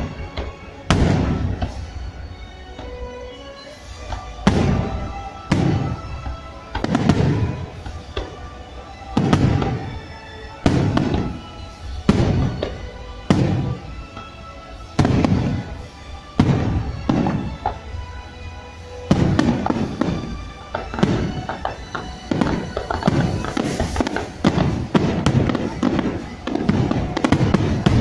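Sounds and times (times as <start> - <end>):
firework shells bursting: 0.0 - 14.3, 19.0 - 28.0
music: 0.0 - 28.0.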